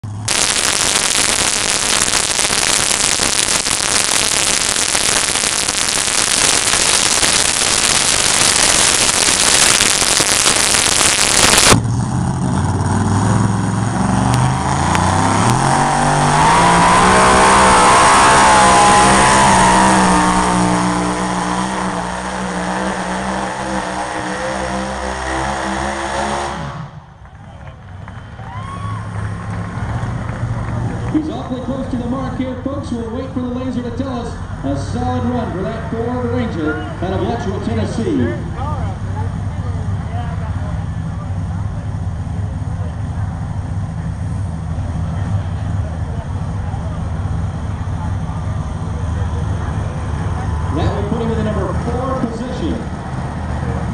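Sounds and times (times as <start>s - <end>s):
truck engine roaring: 0.0s - 53.9s.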